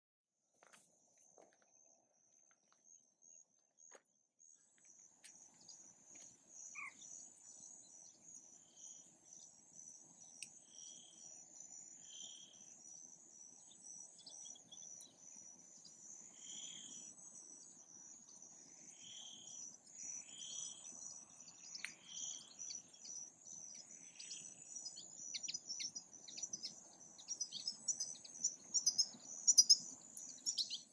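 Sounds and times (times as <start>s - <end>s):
bird chirps: 4.4s - 30.9s
crickets trilling: 5.3s - 30.9s.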